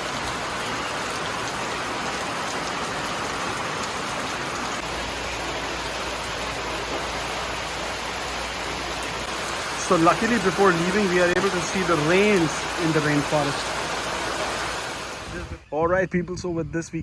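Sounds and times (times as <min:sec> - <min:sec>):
heavy rain falling: 0:00.0 - 0:15.6.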